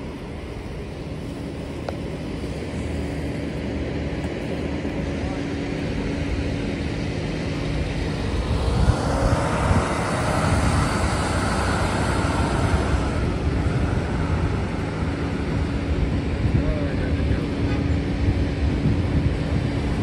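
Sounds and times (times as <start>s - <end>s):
fire engine driving past: 0.0s - 20.0s
steady low hum: 0.0s - 20.0s.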